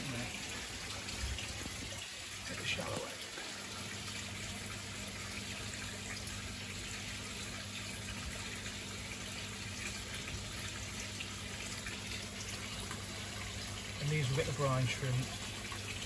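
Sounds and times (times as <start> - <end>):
low pump hum: 0.0 - 16.0
running water: 0.0 - 16.0.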